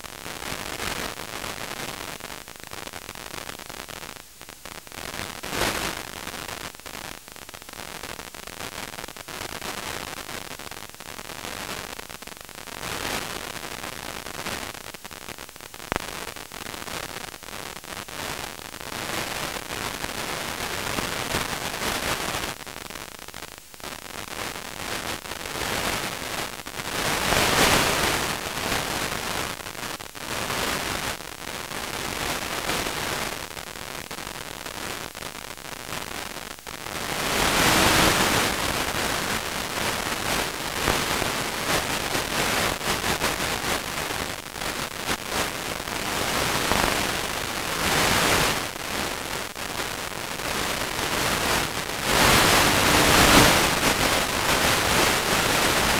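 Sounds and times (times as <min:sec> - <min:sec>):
crackling static hiss: 0:00.0 - 0:55.9.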